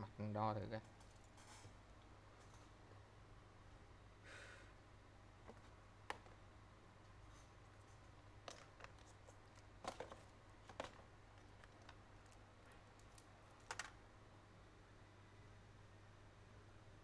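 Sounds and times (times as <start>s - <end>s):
low mains hum: 0.0s - 17.0s.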